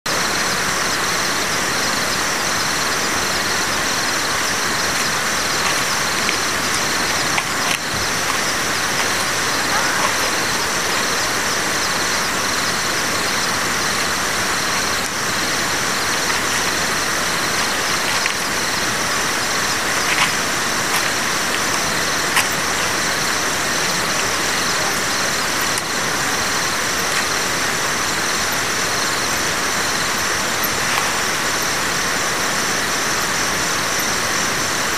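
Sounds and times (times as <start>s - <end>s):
outdoor background hiss: 0.1s - 34.9s.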